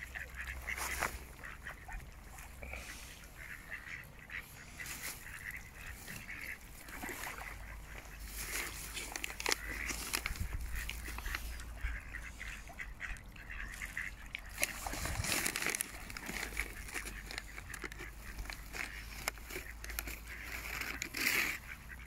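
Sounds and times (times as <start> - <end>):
ducks quacking: 0.0 - 22.0
geese honking: 0.0 - 22.0.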